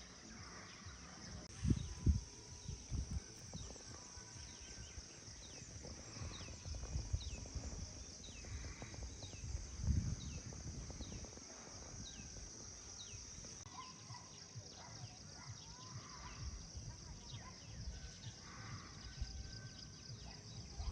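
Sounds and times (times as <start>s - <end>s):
high drone of insects: 0.0s - 20.9s.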